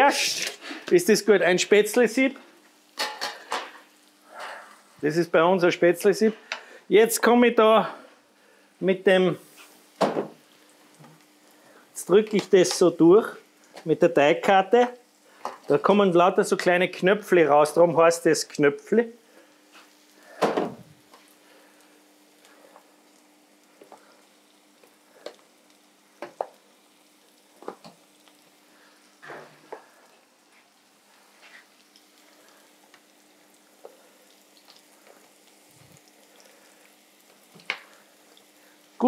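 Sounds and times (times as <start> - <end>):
faint hiss: 0.0 - 39.0.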